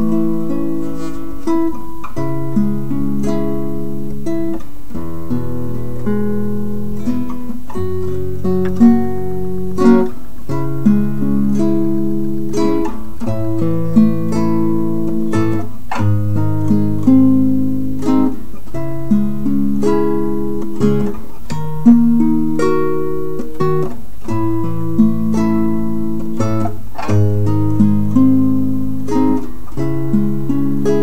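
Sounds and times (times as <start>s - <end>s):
acoustic guitar picking chords: 0.0s - 31.0s
sharp guitar strums: 0.0s - 31.0s.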